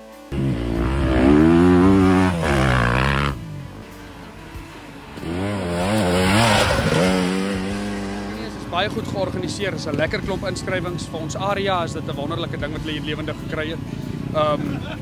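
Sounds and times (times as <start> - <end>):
dirt bike engines revving: 0.3 - 15.0.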